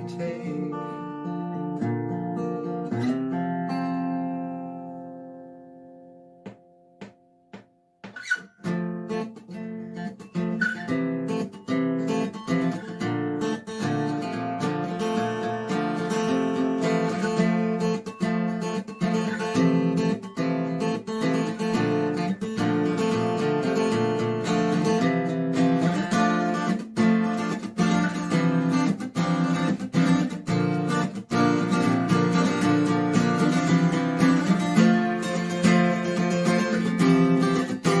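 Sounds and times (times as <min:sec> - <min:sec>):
acoustic guitar playing: 0:00.0 - 0:38.0.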